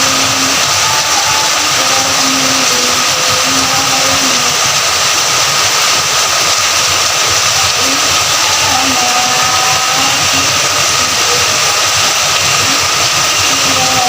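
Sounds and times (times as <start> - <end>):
faint steady humming tones: 0.0 - 5.2, 7.3 - 14.0
heavy rain falling: 0.0 - 14.0.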